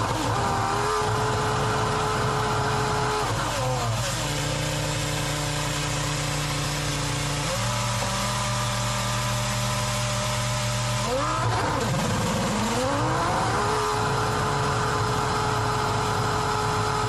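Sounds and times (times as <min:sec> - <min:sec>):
racing car engine revving: 0:00.0 - 0:17.0.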